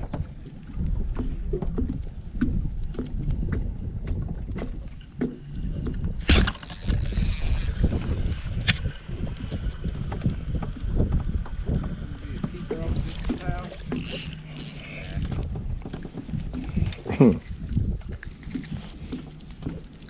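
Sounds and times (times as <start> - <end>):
gusty wind on microphone: 0.0 - 19.8.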